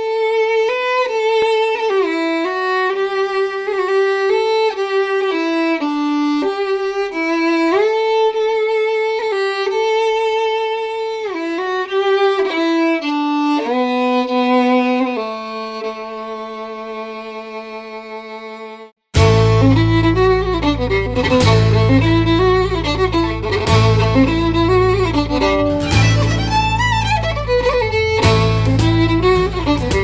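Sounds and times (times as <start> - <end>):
solo fiddle melody: 0.0 - 30.0.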